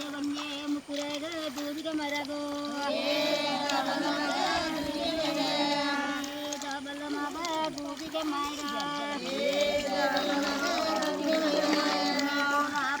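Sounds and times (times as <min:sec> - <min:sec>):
group of women singing: 0:00.0 - 0:13.0.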